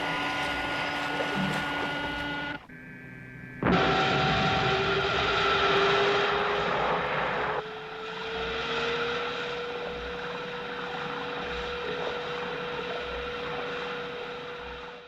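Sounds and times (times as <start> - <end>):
jet engine roar: 0.0 - 2.7, 3.4 - 15.0
jet engine whine: 0.0 - 15.0.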